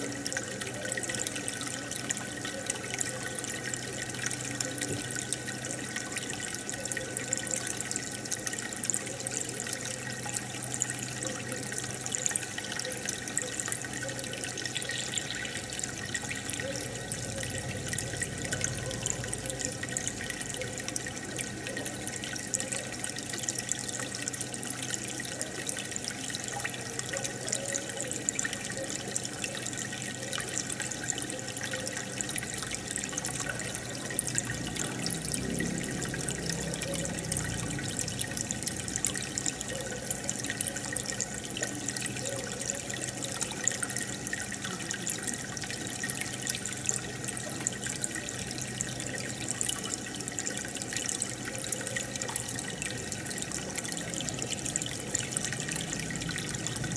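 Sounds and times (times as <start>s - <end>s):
aquarium air bubbling: 0.0s - 25.2s, 25.9s - 56.9s.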